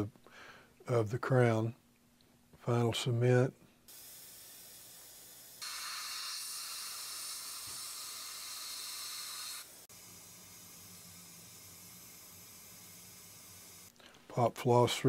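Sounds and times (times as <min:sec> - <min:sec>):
steady hiss: 0:02.8 - 0:15.0.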